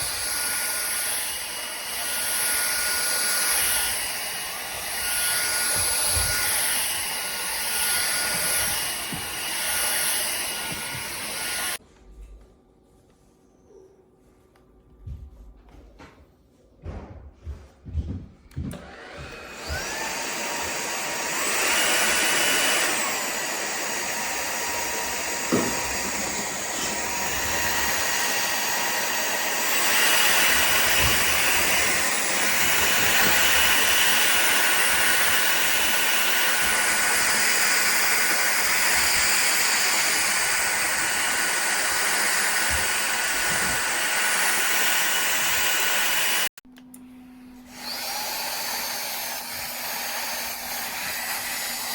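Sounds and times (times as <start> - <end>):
vacuum motor whine: 0.0 - 11.8, 18.5 - 51.9.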